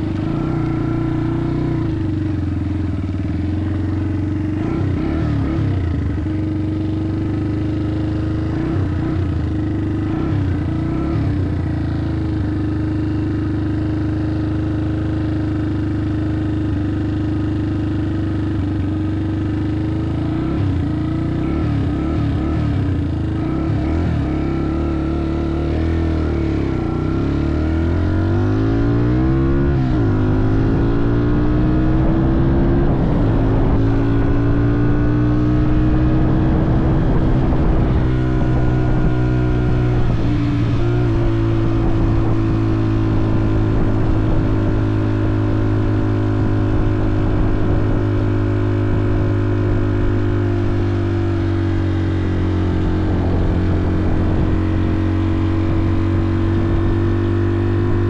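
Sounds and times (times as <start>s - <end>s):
off-road motorcycle engine: 0.0s - 58.0s.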